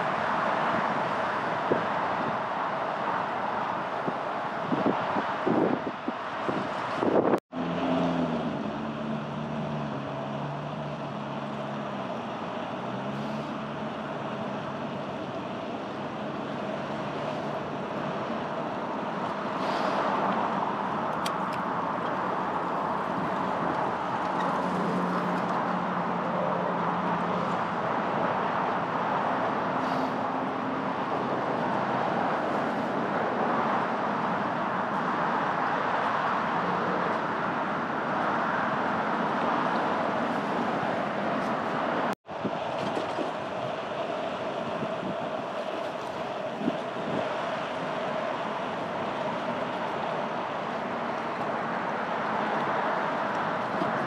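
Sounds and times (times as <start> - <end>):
wind on microphone: 0.0 - 7.4, 16.5 - 54.0
city traffic: 0.0 - 54.0
vehicle engines humming: 0.0 - 54.0.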